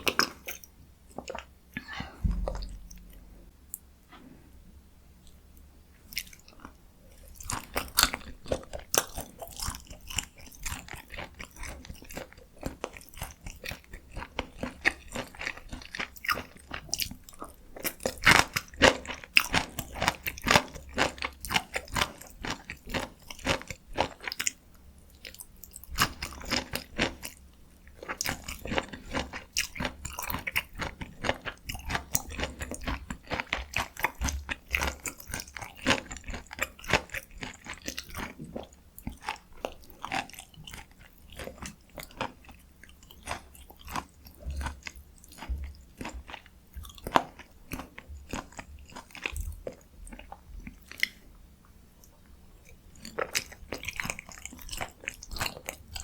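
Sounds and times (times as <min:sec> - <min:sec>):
close-miked chewing: 0:00.0 - 0:03.9, 0:05.2 - 0:56.0.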